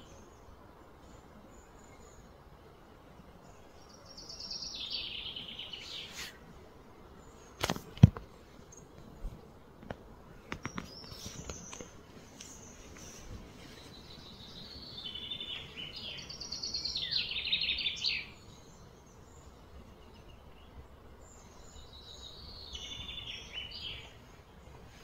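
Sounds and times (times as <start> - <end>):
faint outdoor background noise: 0.0 - 25.0
songbird singing: 0.0 - 25.0.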